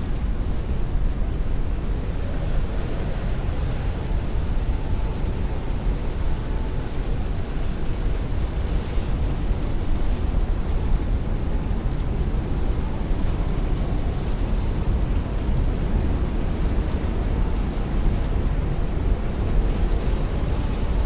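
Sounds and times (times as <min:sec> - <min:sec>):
strong wind: 0:00.0 - 0:21.0.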